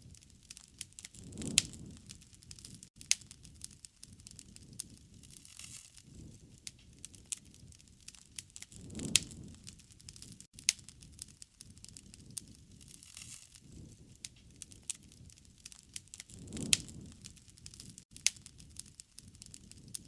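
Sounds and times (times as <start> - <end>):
campfire crackling: 0.0 - 20.0
low flame rumble: 0.0 - 20.0.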